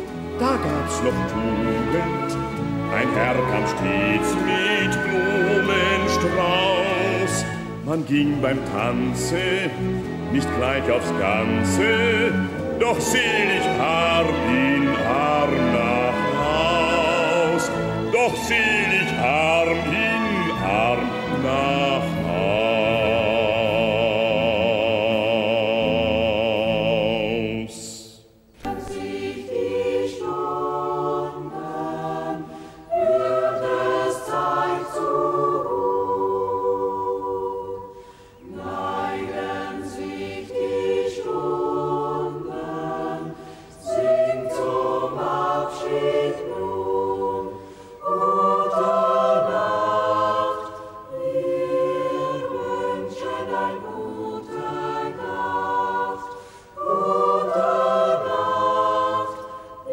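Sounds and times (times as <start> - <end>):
mixed choir singing: 0.9 - 59.9.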